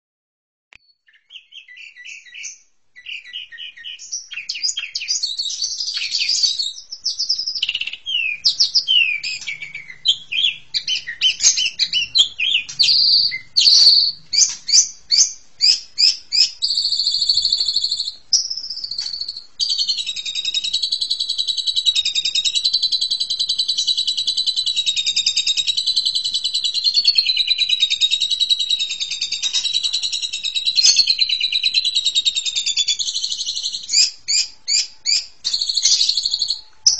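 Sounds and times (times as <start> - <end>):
starling singing: 1.1 - 36.9.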